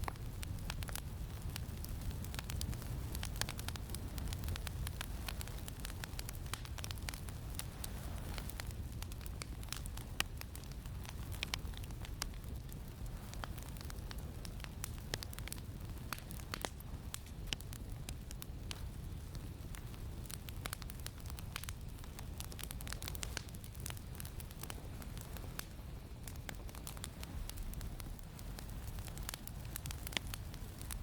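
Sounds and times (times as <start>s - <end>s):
campfire crackling and popping: 0.0s - 31.0s
low wind rumble: 0.0s - 31.0s.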